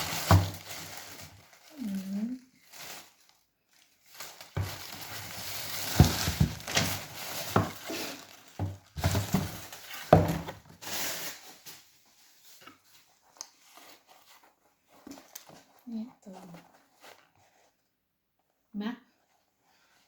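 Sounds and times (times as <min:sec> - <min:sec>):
handling noise rustling: 0:00.0 - 0:02.0, 0:02.6 - 0:17.9.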